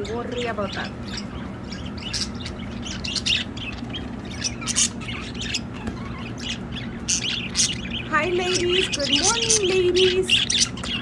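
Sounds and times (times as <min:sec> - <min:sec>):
budgerigars chirping and squawking: 0:00.0 - 0:11.0.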